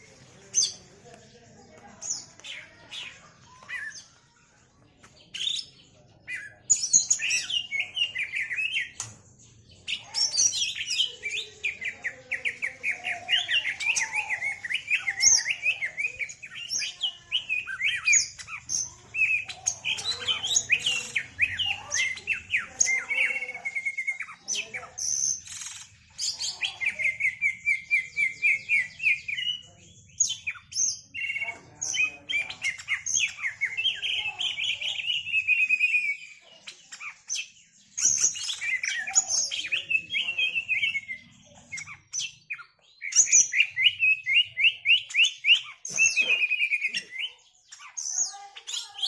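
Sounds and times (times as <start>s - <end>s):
bird singing and chattering: 0.0s - 49.0s
bird trill: 5.2s - 49.0s.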